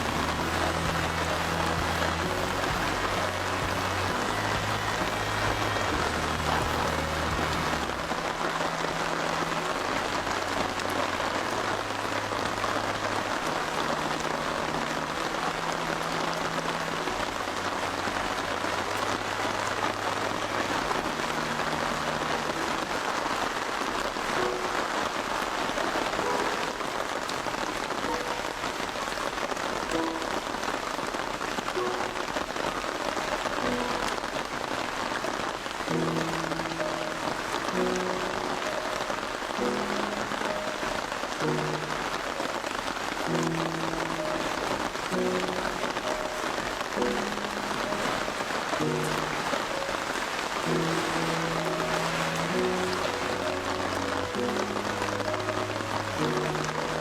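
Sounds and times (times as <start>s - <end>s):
heavy rain falling: 0.0s - 57.0s
soft held background music: 0.0s - 57.0s.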